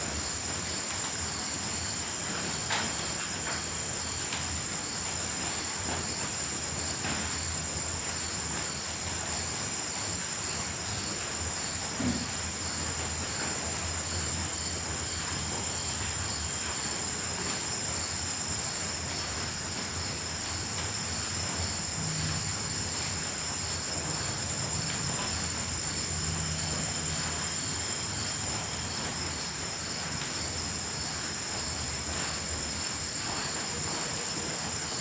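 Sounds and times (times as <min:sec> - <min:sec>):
continuous hiss: 0:00.0 - 0:35.0
insects trilling: 0:00.0 - 0:35.0.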